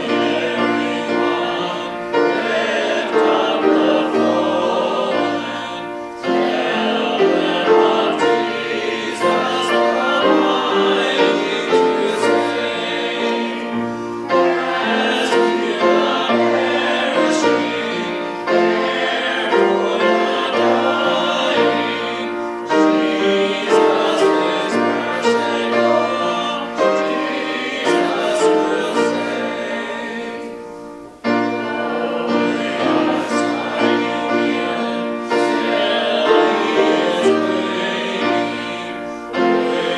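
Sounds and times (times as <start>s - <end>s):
people singing a hymn: 0.0s - 39.9s
piano: 0.0s - 39.9s.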